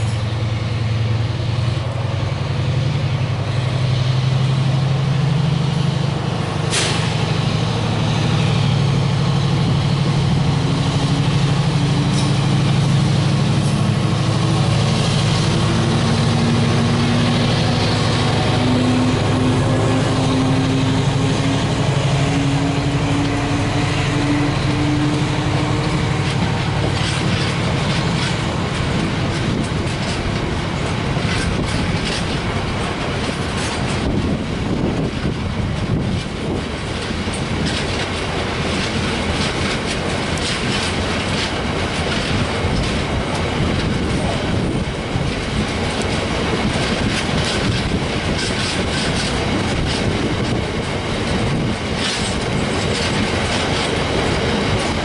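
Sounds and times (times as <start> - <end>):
diesel locomotive engine drone: 0.0 - 55.0
train wheels clattering over rail joints: 0.0 - 55.0.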